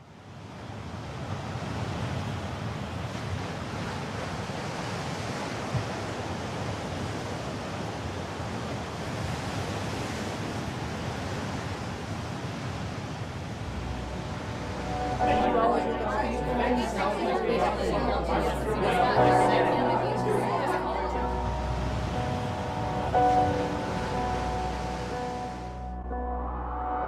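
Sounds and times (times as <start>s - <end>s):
ocean waves and surf: 0.0s - 25.9s.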